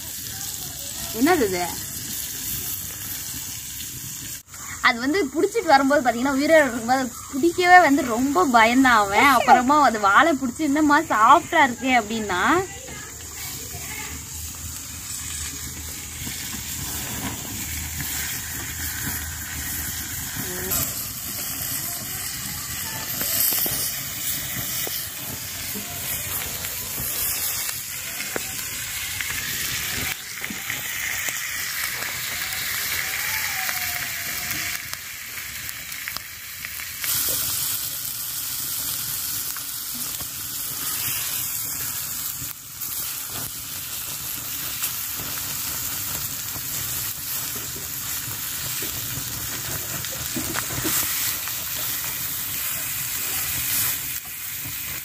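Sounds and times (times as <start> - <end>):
fish sizzling in oil: 0.0 - 55.0.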